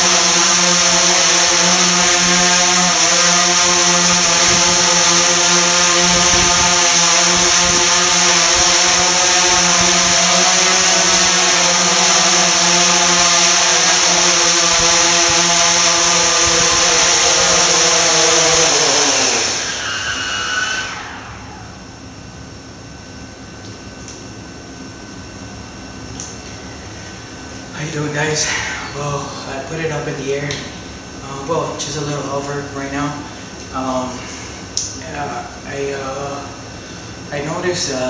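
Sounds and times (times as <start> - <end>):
drone buzzing whine: 0.0 - 38.0.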